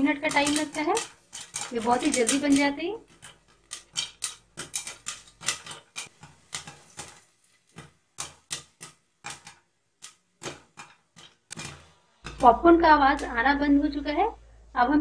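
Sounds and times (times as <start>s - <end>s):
popcorn popping: 0.0s - 13.8s.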